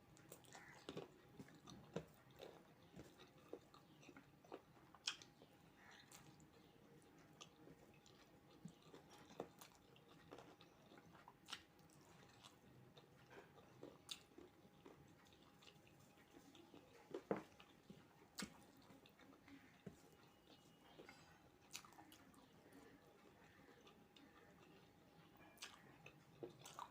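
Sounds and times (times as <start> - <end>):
person chewing food: 0.1 - 26.9.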